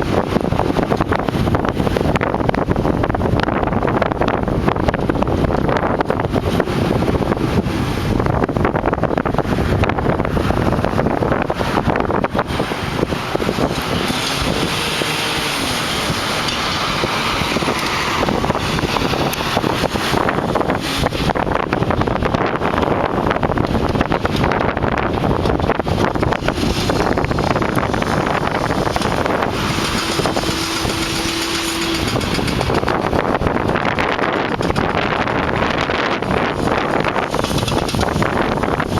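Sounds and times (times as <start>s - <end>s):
heavy demolition machinery running: 0.0s - 38.9s
wind buffeting microphone: 0.0s - 38.9s.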